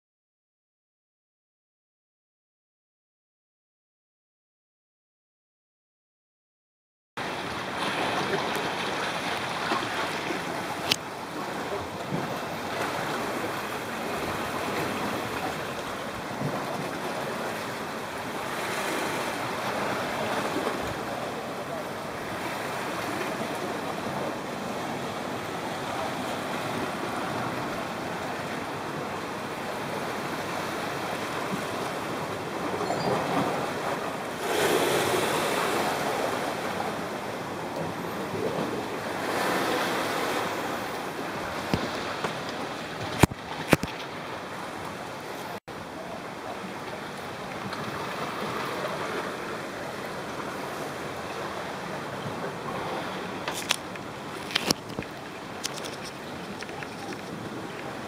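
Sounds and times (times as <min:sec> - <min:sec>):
surf washing against rocks: 0:07.2 - 0:58.0.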